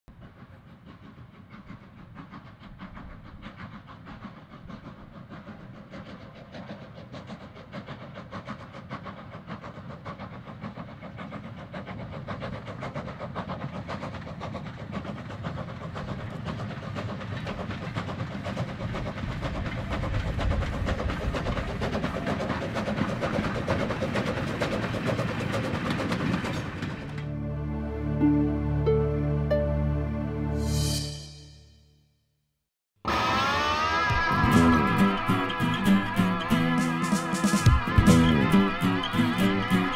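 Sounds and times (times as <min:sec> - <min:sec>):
steam locomotive chuffing: 0:00.1 - 0:27.4, 0:33.1 - 0:39.9.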